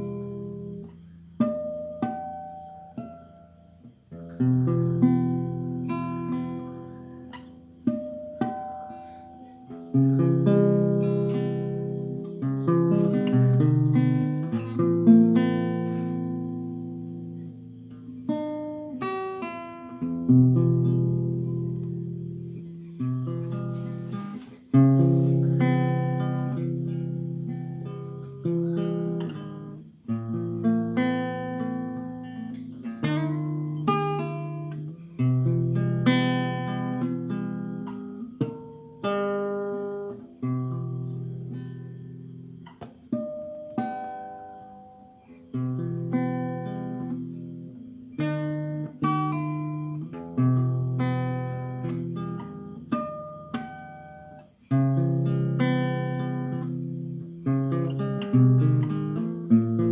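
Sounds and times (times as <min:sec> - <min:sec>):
acoustic guitar: 0:00.0 - 0:59.9.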